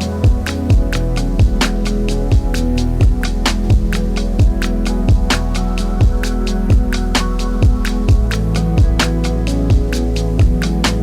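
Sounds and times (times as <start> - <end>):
deep kick drum: 0.0 - 11.0
electronic music with beat: 0.0 - 11.0
held bass: 0.0 - 11.0
hi-hat and snare hits: 0.0 - 11.0.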